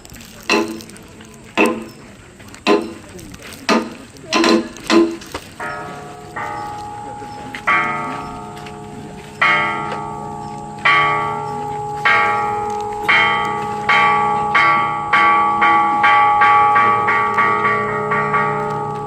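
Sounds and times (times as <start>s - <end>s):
temple bell ringing: 0.3s - 19.0s.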